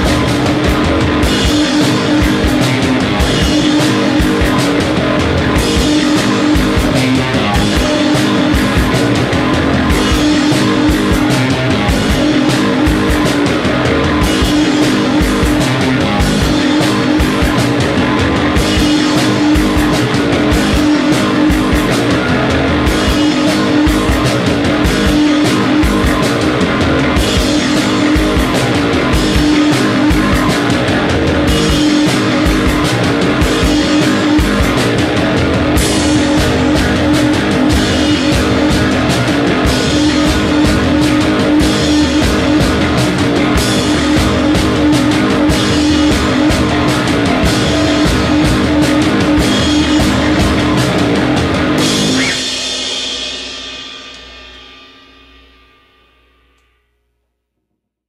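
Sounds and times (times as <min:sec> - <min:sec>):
steady drum beat: 0:00.0 - 0:54.8
rock music with guitar: 0:00.0 - 0:55.9.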